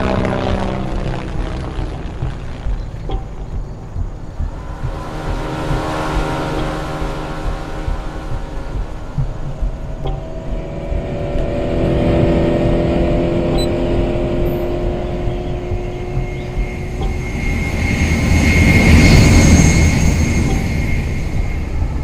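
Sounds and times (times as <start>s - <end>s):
vehicle passing with high whine: 0.0s - 21.8s.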